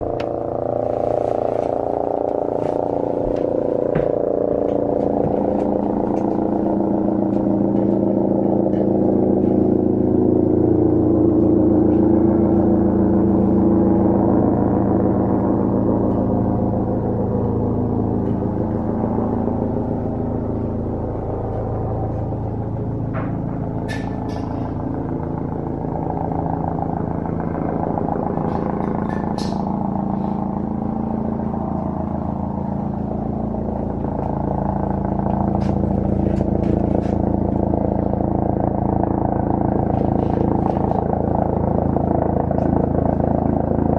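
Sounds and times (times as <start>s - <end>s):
helicopter droning hum: 0.0s - 43.9s.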